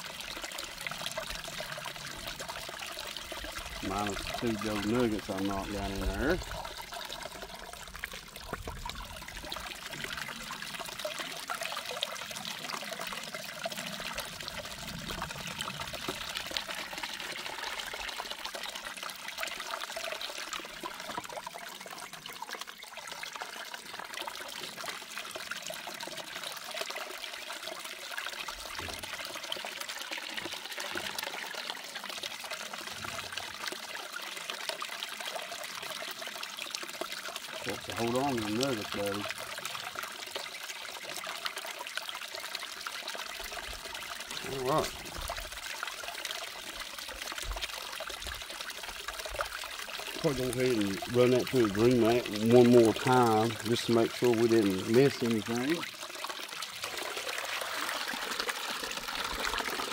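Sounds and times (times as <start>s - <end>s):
water trickling down sluice box: 0.0s - 59.9s.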